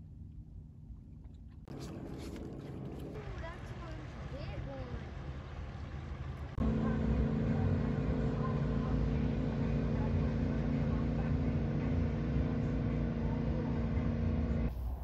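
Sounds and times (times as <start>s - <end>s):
engine running steadily: 1.0s - 15.0s.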